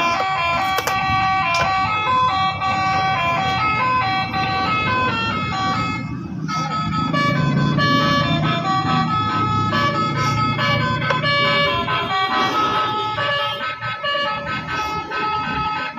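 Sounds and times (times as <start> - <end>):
electronic beeping horn tune: 0.0 - 15.9.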